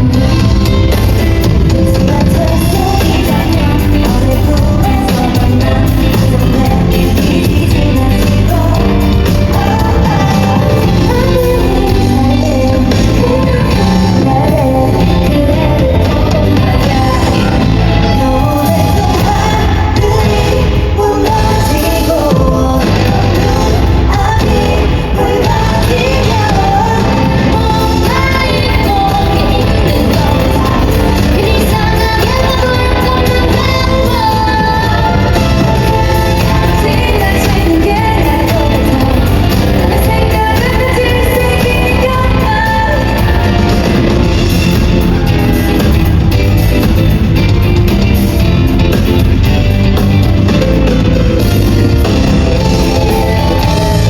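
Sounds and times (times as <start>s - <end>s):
women singing live: 0.0s - 45.9s, 51.5s - 54.0s
drums: 0.0s - 54.0s
electric guitar: 0.0s - 54.0s
pop backing track with heavy bass: 0.0s - 54.0s.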